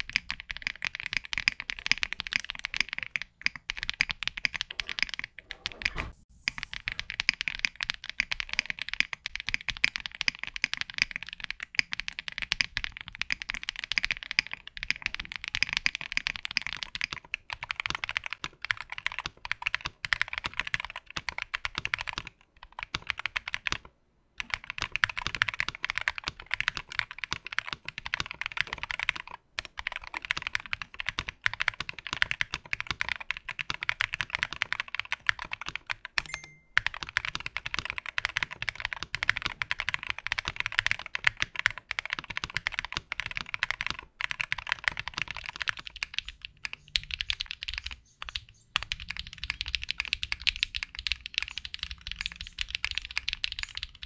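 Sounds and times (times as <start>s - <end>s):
fast typing on a keyboard: 0.0s - 54.0s.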